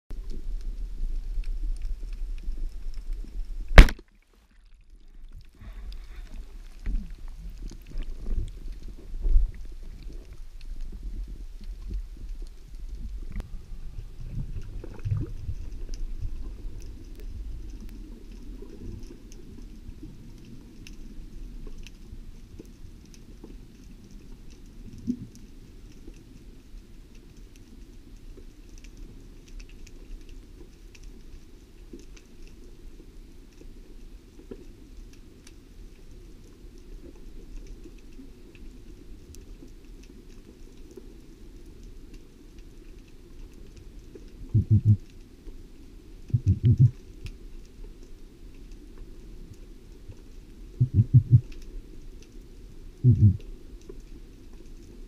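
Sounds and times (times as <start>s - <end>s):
faint crackling clicks: 0.1s - 55.0s
muffled underwater rumble: 0.1s - 55.0s.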